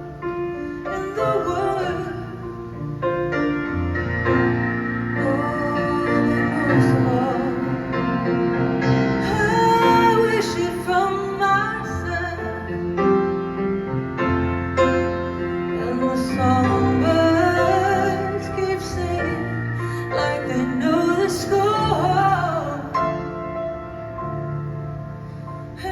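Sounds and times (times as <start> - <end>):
piano accompaniment: 0.0 - 25.9.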